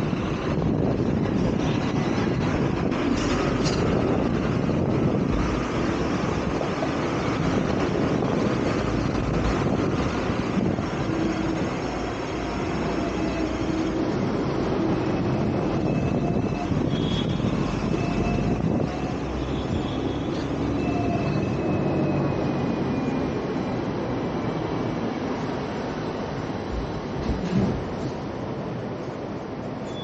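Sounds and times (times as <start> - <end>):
street traffic: 0.0 - 30.0
tram wheels rumbling on rails: 0.0 - 30.0.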